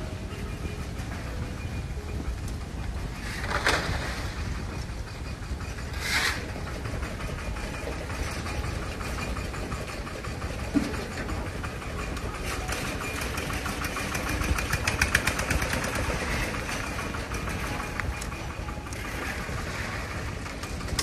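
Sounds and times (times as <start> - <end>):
machinery motor running: 0.0 - 21.0
fast metallic rattle: 3.2 - 21.0.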